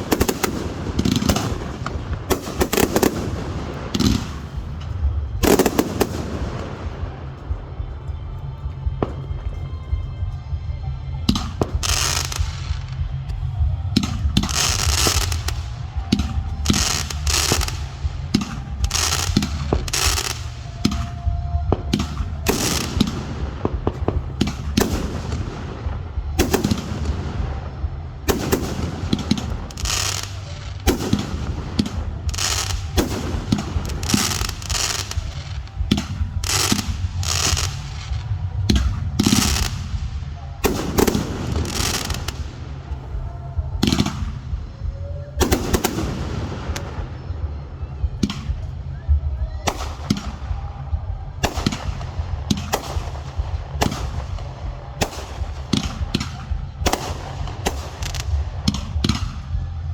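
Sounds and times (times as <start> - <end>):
constant low rumble: 0.0 - 59.9
fireworks bursting: 0.0 - 59.9.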